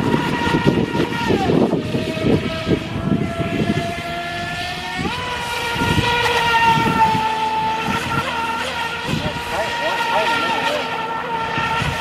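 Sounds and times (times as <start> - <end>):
rc boat motor whining: 0.0 - 12.0.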